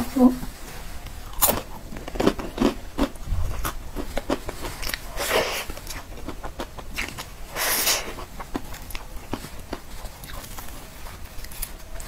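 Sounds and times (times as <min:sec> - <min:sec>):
chewing pastry: 0:01.2 - 0:12.0.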